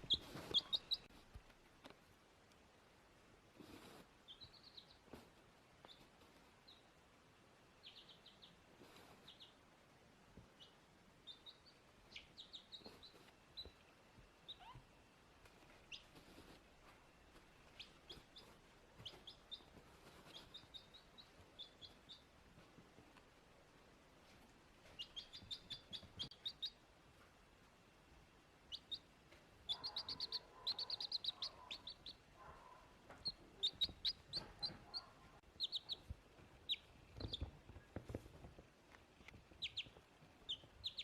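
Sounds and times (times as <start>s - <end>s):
baby chick peeping: 0.0s - 2.0s, 3.6s - 7.0s, 7.8s - 27.3s, 28.6s - 41.0s.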